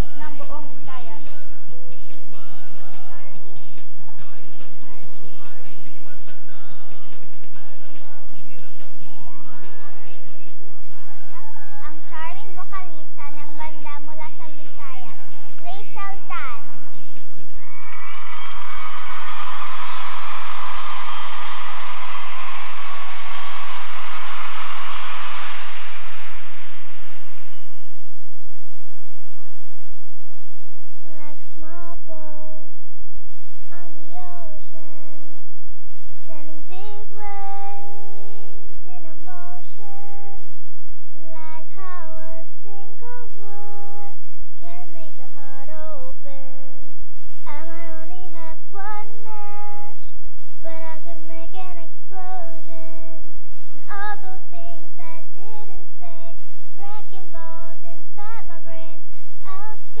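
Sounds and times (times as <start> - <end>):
girl singing into a microphone: 0.0 - 27.6, 31.0 - 32.8, 33.6 - 35.5, 36.1 - 40.5, 41.1 - 60.0.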